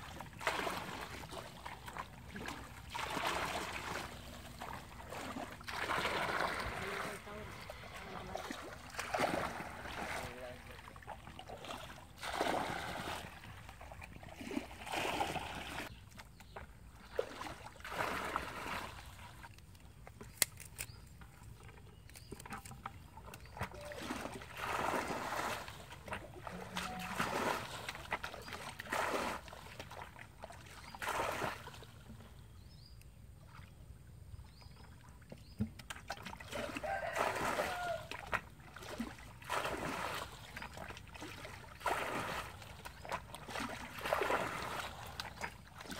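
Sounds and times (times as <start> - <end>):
shallow water splashing: 0.0 - 16.0, 16.9 - 19.6, 21.6 - 32.4, 34.8 - 45.9.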